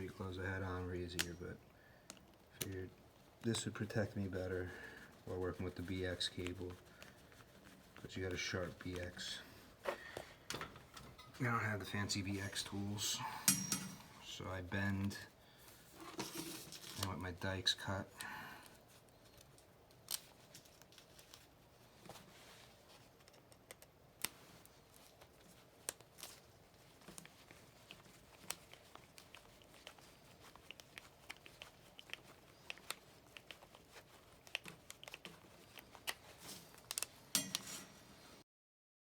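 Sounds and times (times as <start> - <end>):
faint crinkling handling noise: 0.0 - 13.2, 14.0 - 38.4.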